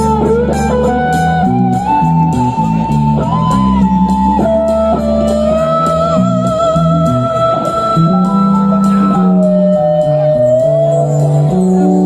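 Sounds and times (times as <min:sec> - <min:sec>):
bass guitar notes: 0:00.0 - 0:12.0
lead guitar melody: 0:00.0 - 0:12.0
steady drums: 0:00.0 - 0:12.0.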